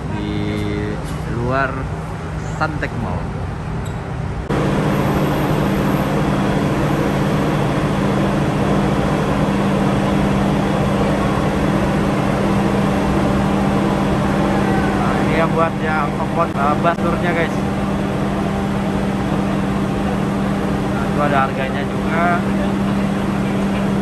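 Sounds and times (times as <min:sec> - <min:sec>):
machinery drone: 0:00.0 - 0:03.7, 0:04.3 - 0:24.0.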